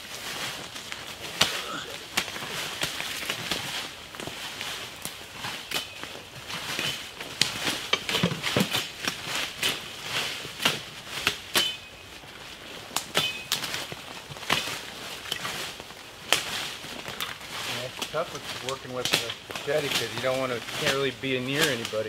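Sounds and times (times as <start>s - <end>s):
rustling leaves: 0.0s - 22.0s
stems and twigs snapping: 0.7s - 12.0s, 12.8s - 22.0s.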